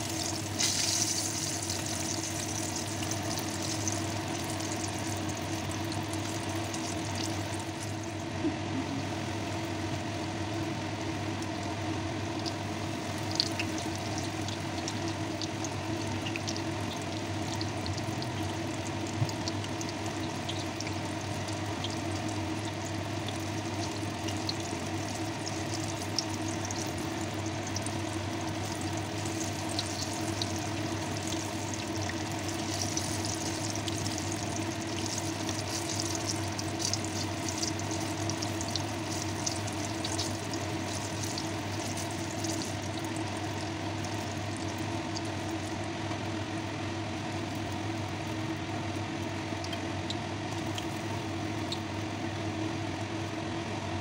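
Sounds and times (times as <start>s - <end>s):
eggplant sizzling in hot oil: 0.0s - 53.6s
steady low hum: 0.0s - 54.0s.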